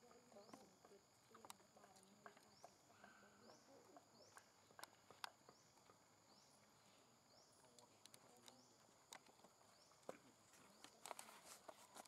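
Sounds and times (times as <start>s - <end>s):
faint ticks and clicks: 0.0s - 12.0s.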